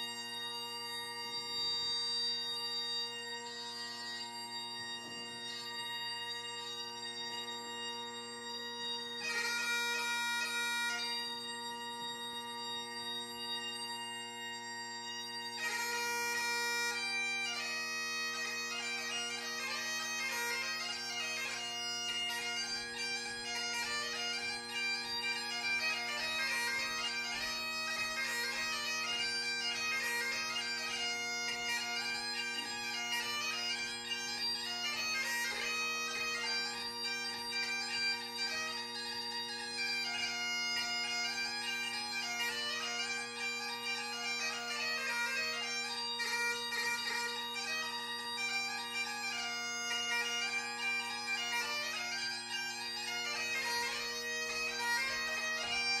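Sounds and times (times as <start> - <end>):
bagpipe playing: 0.0 - 56.0.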